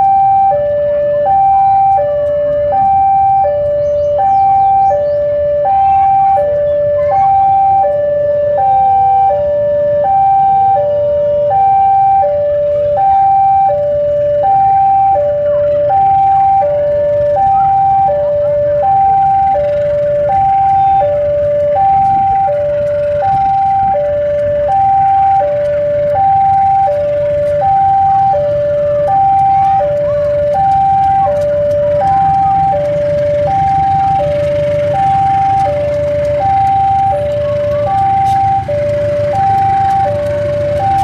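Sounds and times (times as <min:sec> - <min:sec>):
diesel locomotive engine rumble: 0:00.0 - 0:41.0
level crossing two-tone alarm: 0:00.0 - 0:41.0.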